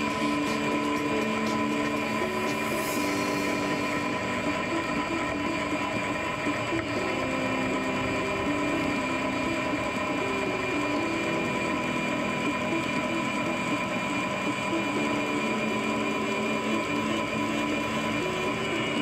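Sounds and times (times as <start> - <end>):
cable reel whirring and whining: 0.0 - 19.0.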